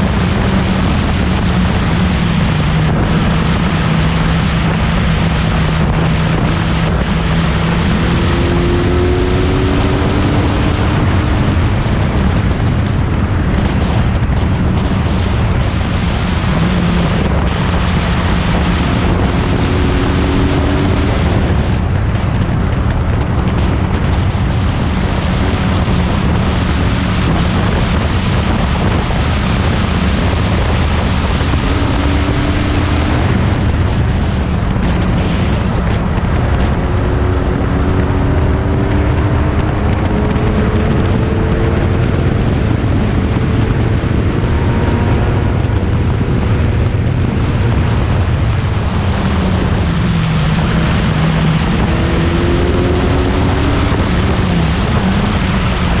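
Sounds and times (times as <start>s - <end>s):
racing car engine accelerating: 0.0s - 56.0s
wind buffeting microphone: 0.0s - 56.0s.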